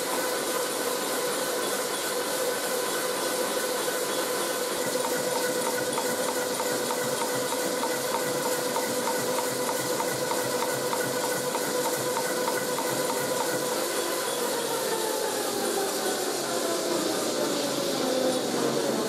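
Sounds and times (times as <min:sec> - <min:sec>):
motor and gear whine: 0:00.0 - 0:19.0.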